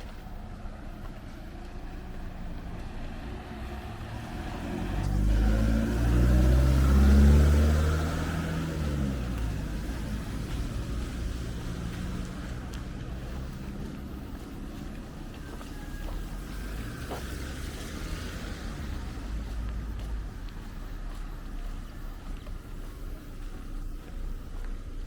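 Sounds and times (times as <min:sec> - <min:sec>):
motor vehicle passing by: 0:00.0 - 0:25.0.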